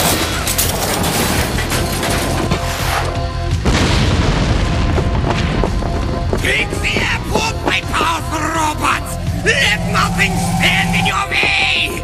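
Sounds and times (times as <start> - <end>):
dramatic action music: 0.0 - 12.0.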